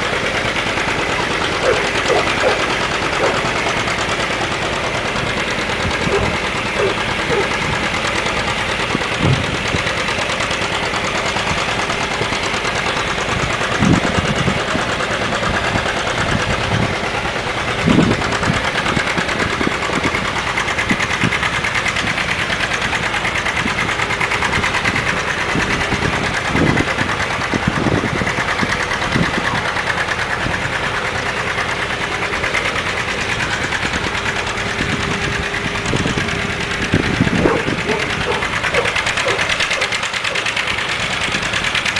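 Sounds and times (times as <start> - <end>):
tractor engines chugging: 0.0 - 41.9.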